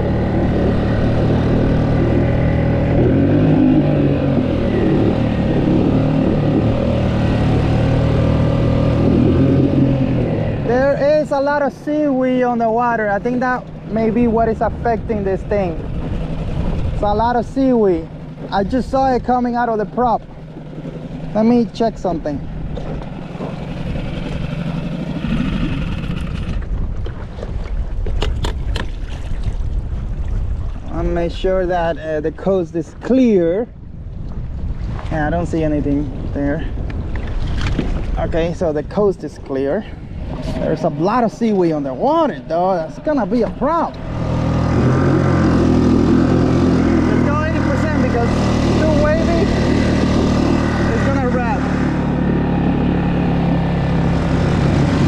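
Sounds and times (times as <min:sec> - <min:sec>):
outboard motor running hard: 0:00.0 - 0:55.0
wind buffeting microphone: 0:00.0 - 0:55.0.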